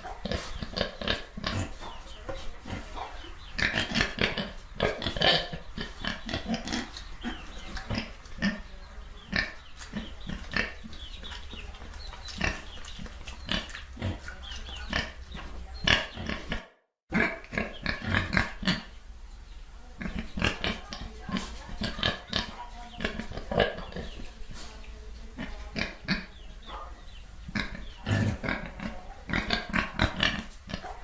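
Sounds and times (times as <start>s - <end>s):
pigs grunting: 0.0s - 19.0s, 20.0s - 24.3s, 25.4s - 31.0s.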